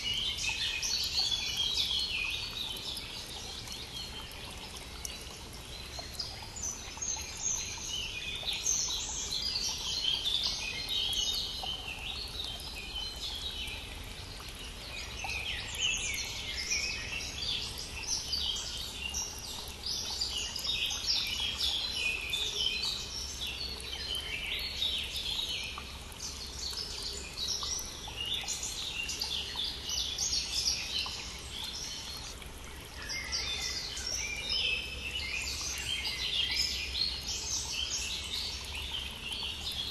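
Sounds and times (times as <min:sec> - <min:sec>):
flowing brook: 0:00.0 - 0:39.9
songbirds singing: 0:00.0 - 0:39.9.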